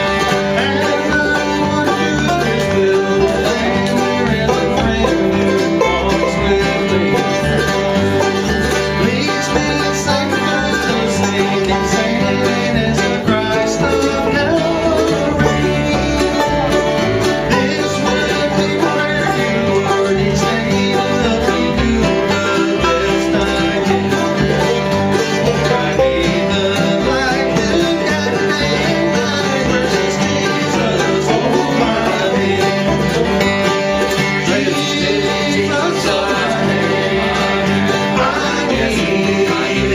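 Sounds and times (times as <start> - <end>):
bluegrass band playing: 0.0 - 39.9.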